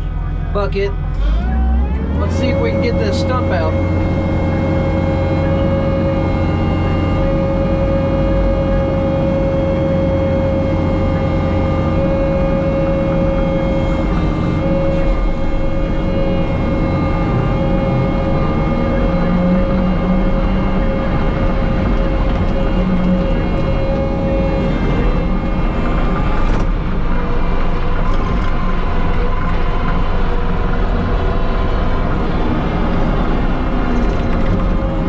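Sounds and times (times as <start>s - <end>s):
diesel engine at high revs: 0.0s - 35.0s
hydraulic whine: 0.0s - 35.0s.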